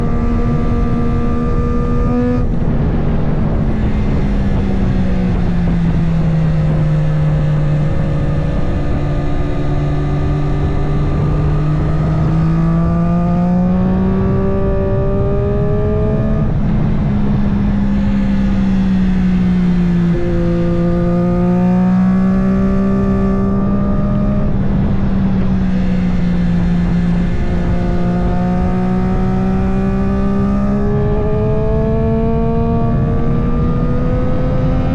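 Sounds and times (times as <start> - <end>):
racing motorcycle engine revving: 0.0 - 34.9
wind rushing: 0.0 - 34.9.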